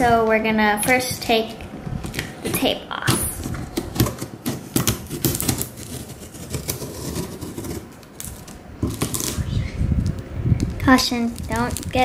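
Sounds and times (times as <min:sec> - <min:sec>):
packing tape peeled off cardboard: 0:02.0 - 0:12.0.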